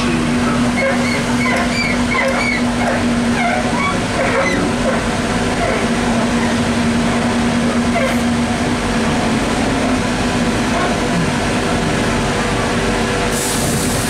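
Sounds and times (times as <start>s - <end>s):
indistinct passenger voices: 0.0s - 14.0s
trolleybus steady hum: 0.0s - 14.0s.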